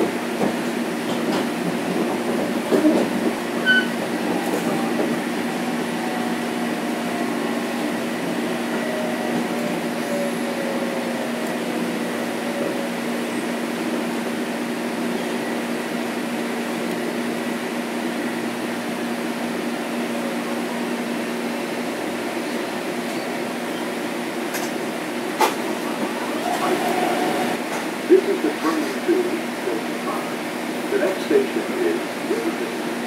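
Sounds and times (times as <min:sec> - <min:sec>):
train car hum: 0:00.0 - 0:33.0.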